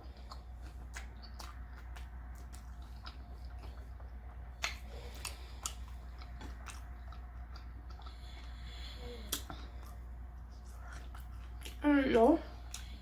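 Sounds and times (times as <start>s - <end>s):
chewing and biting food: 0.0s - 13.0s
low hum: 0.0s - 13.0s.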